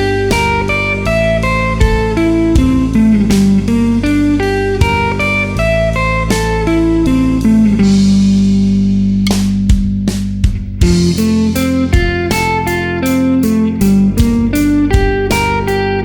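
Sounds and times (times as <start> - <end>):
guitar arpeggios: 0.0 - 16.0
steady low bass: 0.0 - 16.0.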